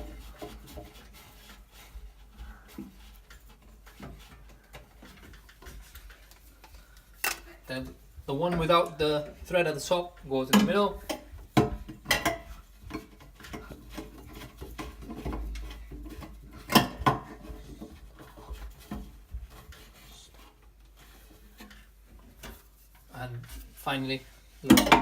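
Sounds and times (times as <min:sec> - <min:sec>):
plastic pipes clicking and knocking: 0:00.0 - 0:23.8, 0:24.6 - 0:25.0.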